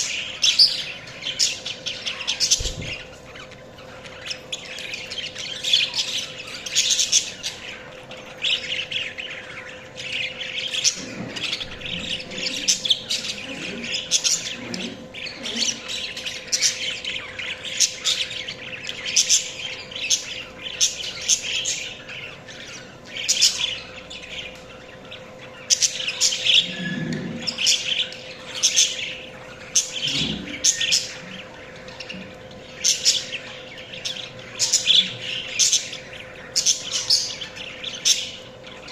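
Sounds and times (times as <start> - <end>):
budgerigars chirping: 0.0 - 38.9
faint steady hum: 0.0 - 38.9.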